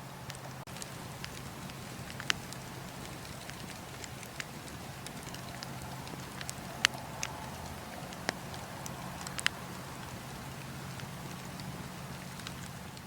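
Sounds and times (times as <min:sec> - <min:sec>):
burning wood crackles and pops: 0:00.0 - 0:13.0
campfire flames rustling: 0:00.0 - 0:13.0.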